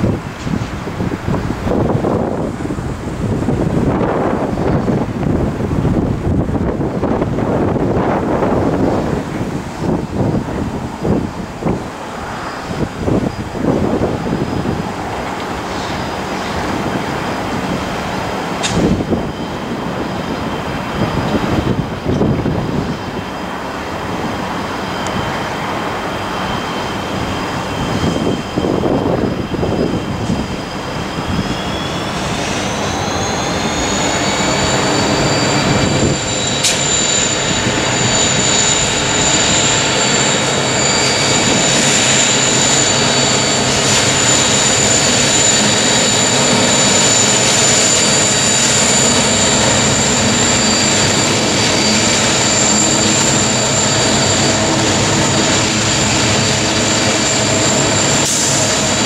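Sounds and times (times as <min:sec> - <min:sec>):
diesel locomotive engines whining: 0:00.0 - 0:59.0
wind buffeting microphone: 0:00.0 - 0:59.0.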